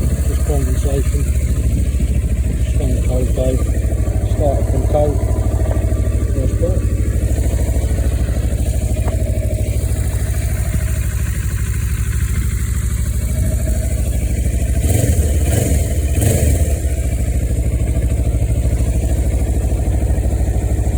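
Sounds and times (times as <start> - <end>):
engine throttle blips: 0.0 - 20.9
motorcycle engine idling: 0.0 - 20.9.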